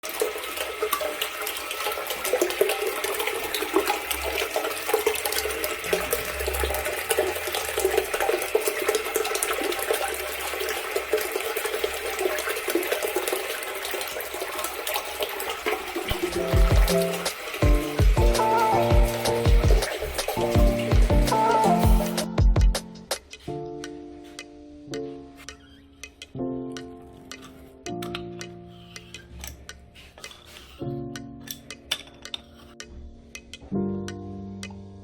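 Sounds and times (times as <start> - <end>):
water running through urinal: 0.0 - 32.6.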